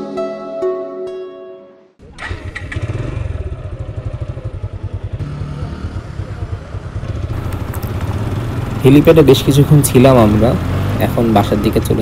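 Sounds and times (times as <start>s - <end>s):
motorcycle engine idling: 2.0s - 12.0s.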